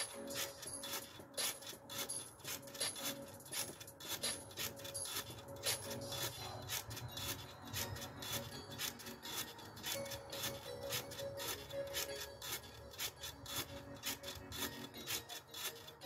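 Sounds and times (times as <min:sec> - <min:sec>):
mini trampoline springs creaking: 0:00.0 - 0:16.0.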